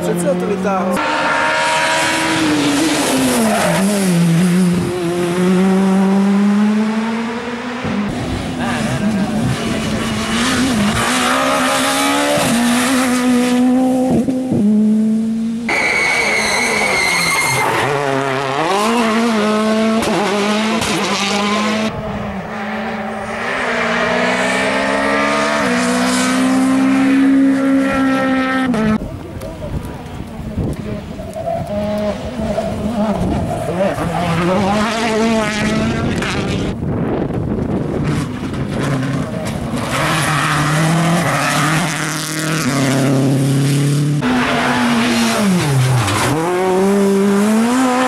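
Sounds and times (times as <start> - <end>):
rally car engines revving: 0.0 - 48.0.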